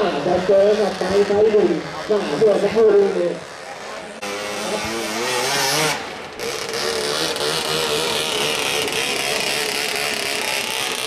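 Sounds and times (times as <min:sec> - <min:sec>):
boat engine running flat out: 0:00.0 - 0:11.0.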